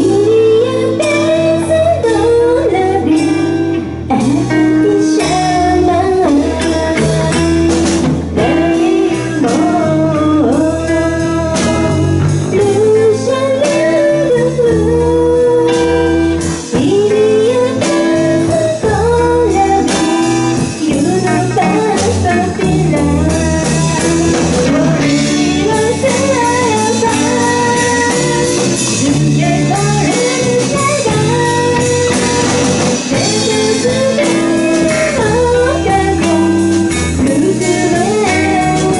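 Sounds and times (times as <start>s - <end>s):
drums: 0.0s - 38.9s
electric guitars: 0.0s - 38.9s
woman singing: 0.0s - 38.9s.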